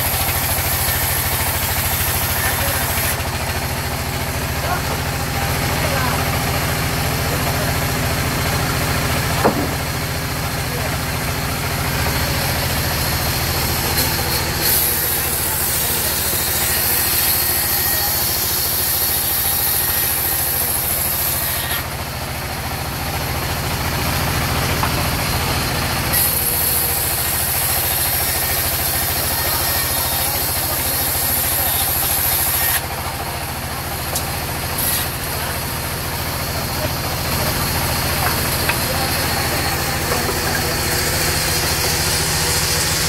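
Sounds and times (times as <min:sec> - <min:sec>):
band saw drone: 0:00.0 - 0:22.0, 0:23.9 - 0:43.0
saw blade cutting log: 0:00.0 - 0:22.1, 0:24.0 - 0:43.0.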